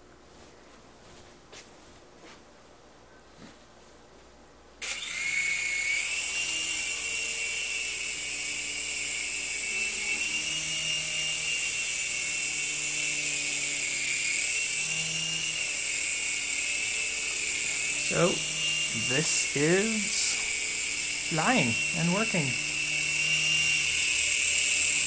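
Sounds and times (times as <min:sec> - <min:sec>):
high-pitched motor whine: 0:04.8 - 0:25.0
rotor hum: 0:04.8 - 0:25.0.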